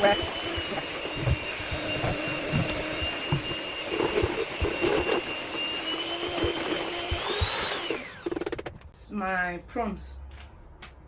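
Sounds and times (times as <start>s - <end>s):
kitchen appliance motor whining: 0.0s - 8.9s.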